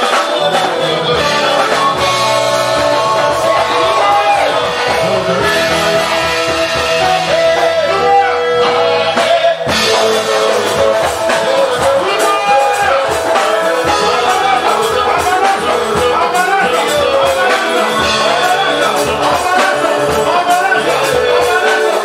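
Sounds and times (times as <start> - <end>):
loud music with singing: 0.0 - 22.0.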